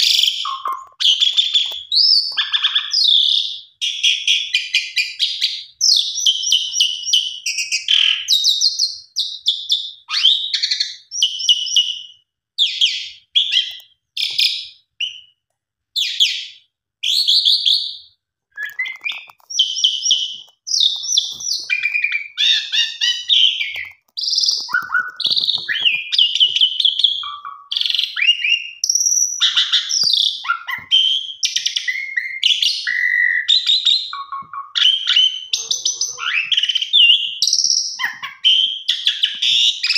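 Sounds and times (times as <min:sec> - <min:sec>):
starling singing: 0:00.0 - 0:15.4, 0:16.0 - 0:39.9.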